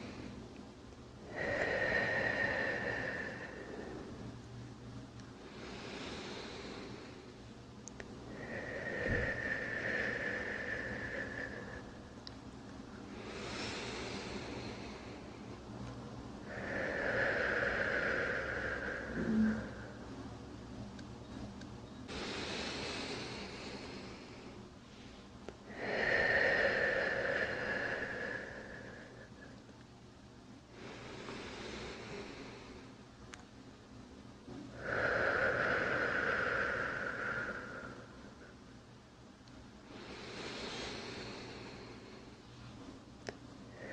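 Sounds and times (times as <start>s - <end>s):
deep human breathing: 0.0s - 0.6s, 1.2s - 29.8s, 30.4s - 43.9s.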